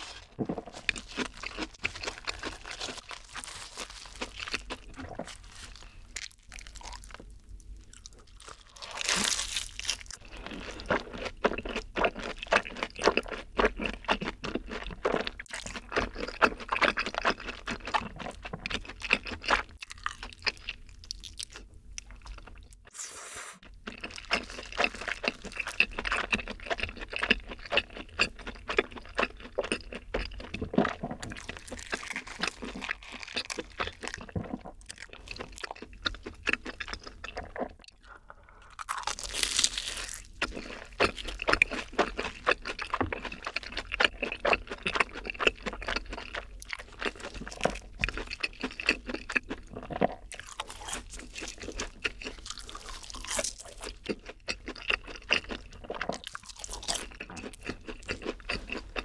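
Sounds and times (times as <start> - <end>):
crunching and chewing: 0.0 - 22.9, 23.6 - 59.0.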